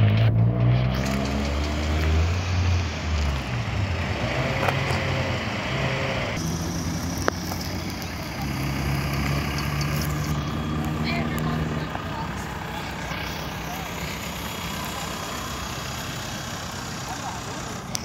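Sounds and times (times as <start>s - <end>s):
car engine at low revs: 0.0s - 18.0s
engines idling: 0.0s - 18.0s.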